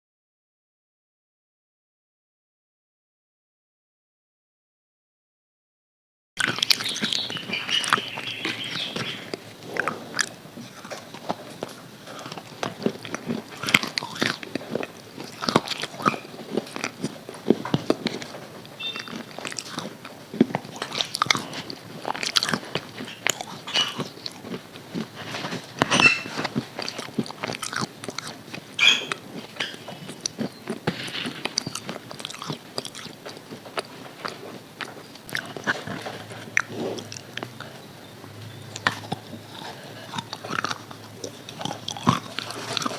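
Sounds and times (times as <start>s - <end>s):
person chewing crispy fried chicken: 6.4s - 42.9s
sharp crunches of coating: 6.4s - 42.9s.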